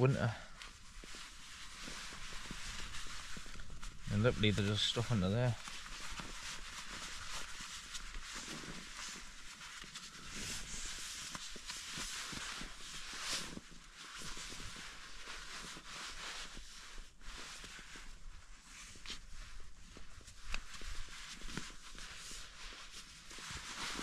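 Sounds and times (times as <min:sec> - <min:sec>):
nylon rustling and crinkling: 0:00.0 - 0:24.0.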